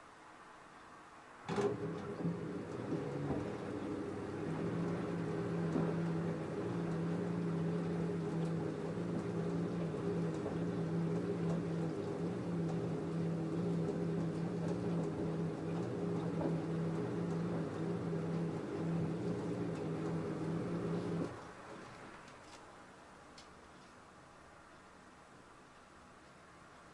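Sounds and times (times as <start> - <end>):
washing machine hum: 1.1 - 26.9.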